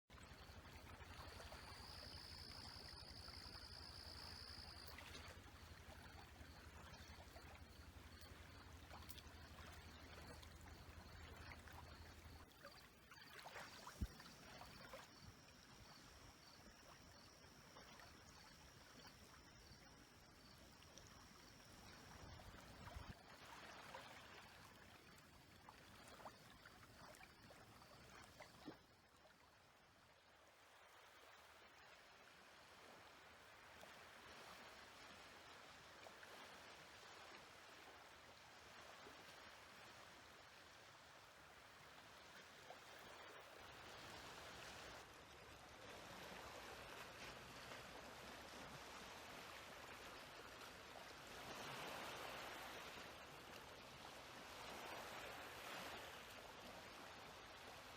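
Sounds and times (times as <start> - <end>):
small waves lapping and splashing: 0.1 - 57.9.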